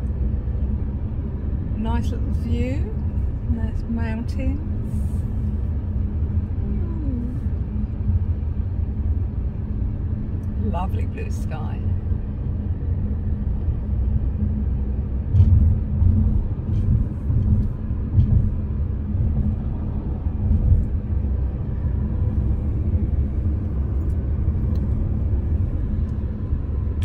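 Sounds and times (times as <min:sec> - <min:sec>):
car cabin rumble: 0:00.0 - 0:27.0.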